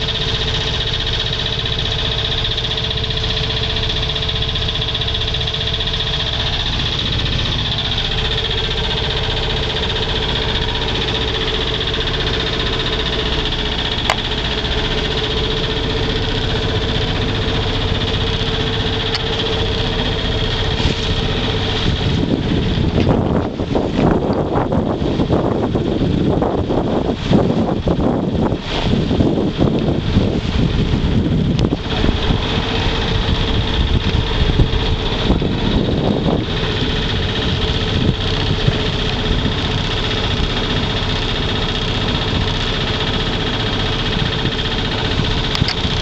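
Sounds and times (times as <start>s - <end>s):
boat engine whine and hum: 0.0s - 46.0s
wind buffeting microphone: 0.0s - 46.0s.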